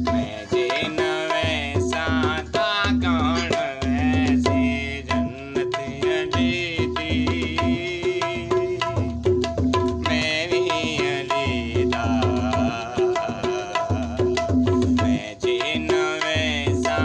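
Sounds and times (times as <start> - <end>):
hand drums: 0.0 - 17.0
man singing: 0.0 - 17.0.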